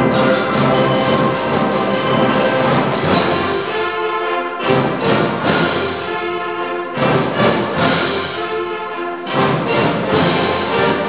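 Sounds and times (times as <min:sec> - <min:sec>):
concert band playing chords: 0:00.0 - 0:11.0.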